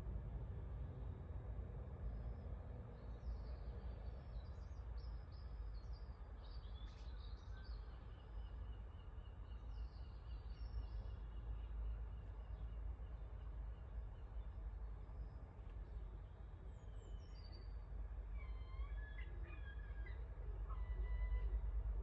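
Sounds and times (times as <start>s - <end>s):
songbirds twittering: 3.0s - 21.5s.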